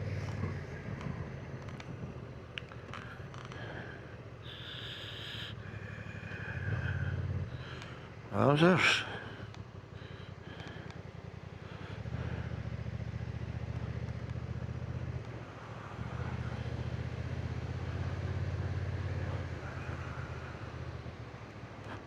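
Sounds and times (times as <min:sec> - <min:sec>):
motorcycle engine running: 0:00.0 - 0:04.8, 0:05.5 - 0:22.0.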